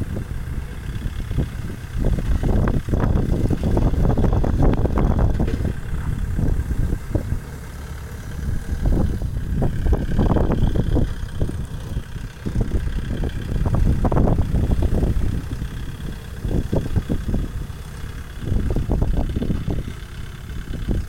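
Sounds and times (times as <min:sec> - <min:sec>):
tractor diesel engine under load: 0:00.0 - 0:21.0
plough knocking in hard soil: 0:01.4 - 0:20.0.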